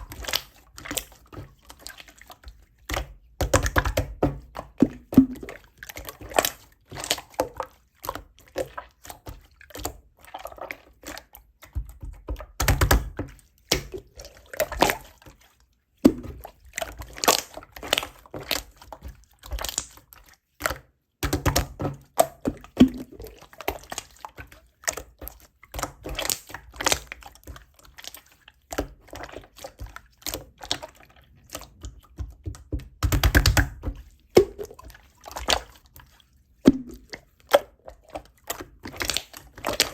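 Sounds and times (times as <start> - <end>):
slime squishing: 0.0 - 39.9.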